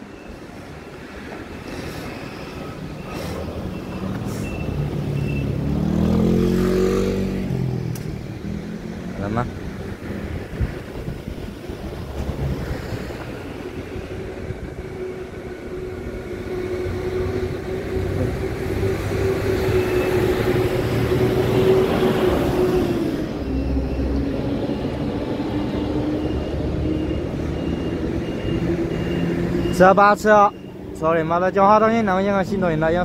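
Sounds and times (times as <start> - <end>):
vehicle passing by: 1.5 - 30.0.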